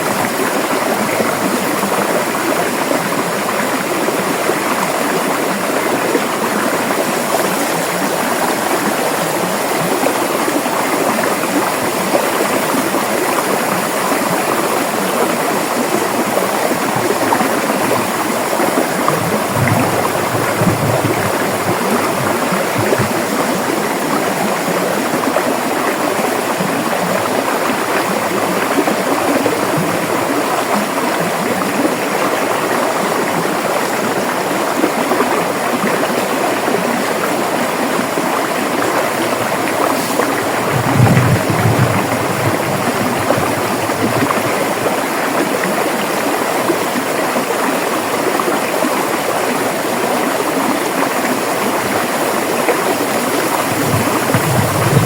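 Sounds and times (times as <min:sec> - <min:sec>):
river water over rocks: 0:00.0 - 0:55.0.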